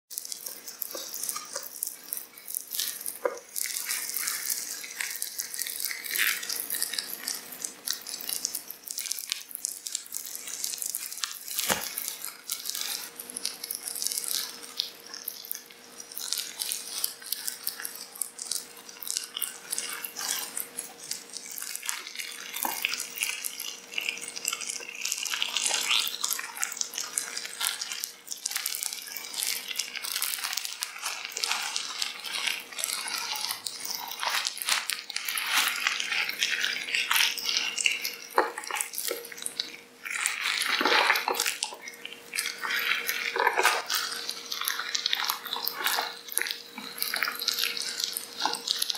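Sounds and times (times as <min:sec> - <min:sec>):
wet slimy crackling and dripping: 0:00.1 - 0:48.9
faint steady hum: 0:00.2 - 0:48.9.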